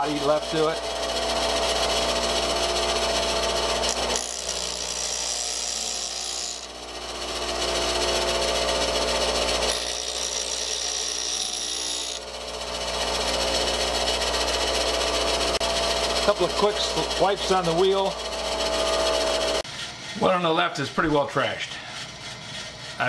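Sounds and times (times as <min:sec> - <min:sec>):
drill bit grinding on wheel: 0:00.0 - 0:20.2
bench grinder running: 0:00.0 - 0:23.0.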